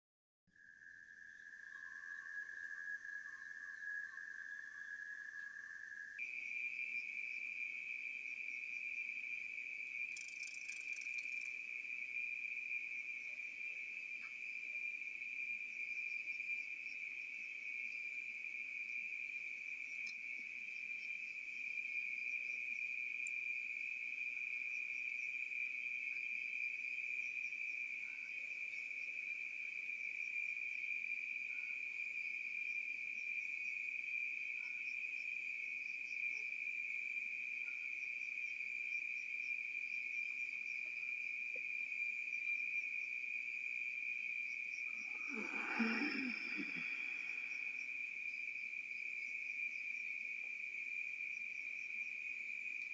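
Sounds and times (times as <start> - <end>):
crickets chirping: 0.6 - 52.9.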